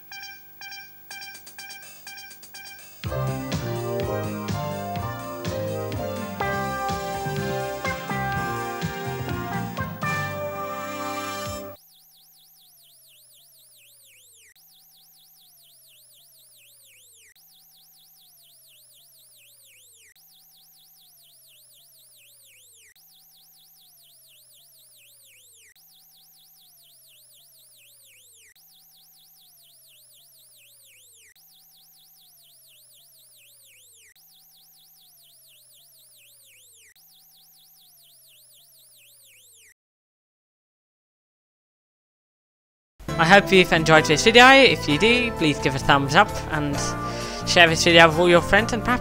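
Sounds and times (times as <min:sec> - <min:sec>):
warbling electronic alert siren: 0:00.0 - 0:39.8.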